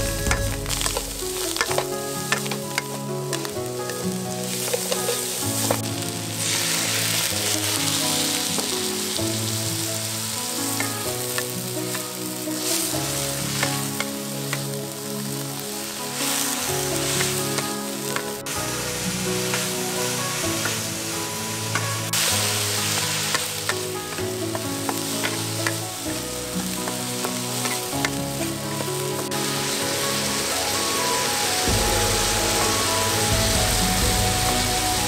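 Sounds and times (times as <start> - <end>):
spatula scraping wok: 0.0 - 9.2, 15.6 - 35.0
soft background melody: 0.0 - 35.0
vegetables sizzling in a wok: 0.0 - 35.0.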